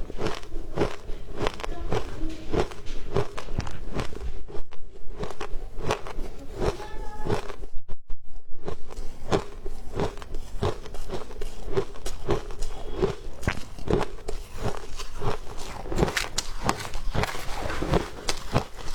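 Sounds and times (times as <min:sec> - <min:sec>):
ice being chewed: 0:00.0 - 0:07.7, 0:08.6 - 0:18.9.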